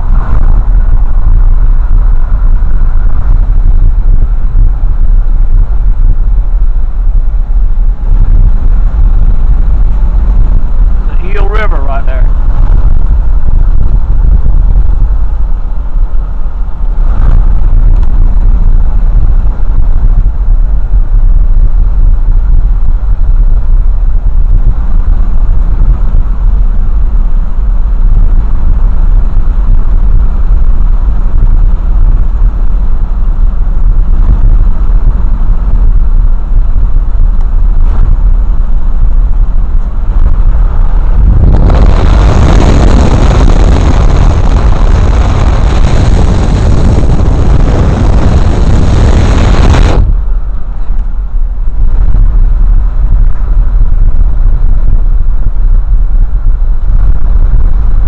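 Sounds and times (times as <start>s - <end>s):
road and wind noise in vehicle: 0.0s - 58.0s.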